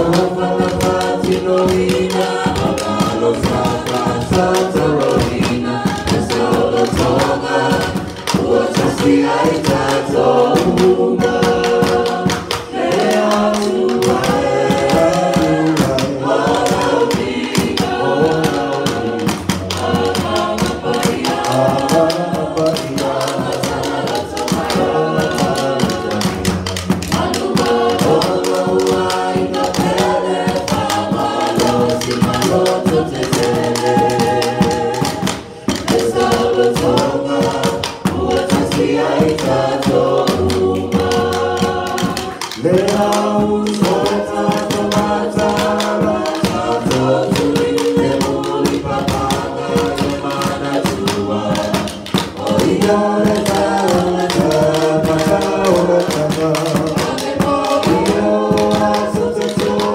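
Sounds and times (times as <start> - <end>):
vocal group singing in harmony: 0.0 - 59.9.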